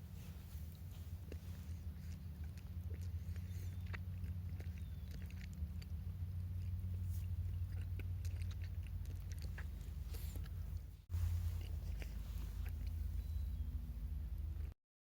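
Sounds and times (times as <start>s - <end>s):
low rumble: 0.0s - 14.8s.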